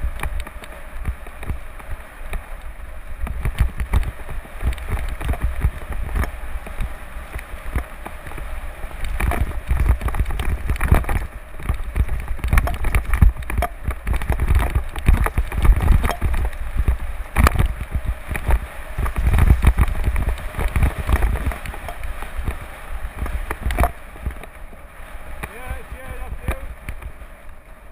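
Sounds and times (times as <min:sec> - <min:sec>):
mountain bike rattling: 0:00.0 - 0:27.6
wind buffeting microphone: 0:03.0 - 0:27.9.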